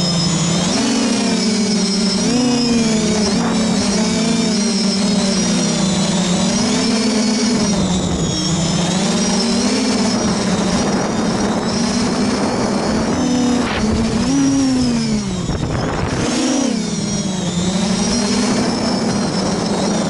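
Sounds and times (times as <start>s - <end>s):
quadcopter motors buzzing: 0.0s - 20.0s.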